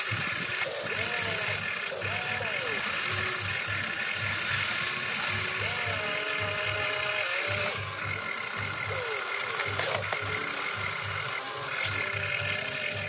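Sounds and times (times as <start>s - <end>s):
small electric motors whirring: 0.0s - 13.0s.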